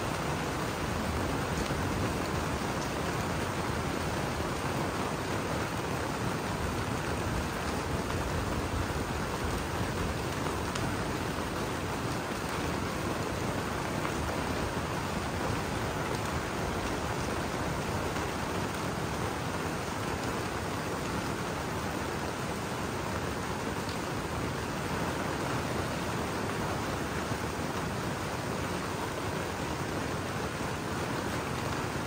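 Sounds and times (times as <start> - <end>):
steady rain on dome panels: 0.0 - 32.0.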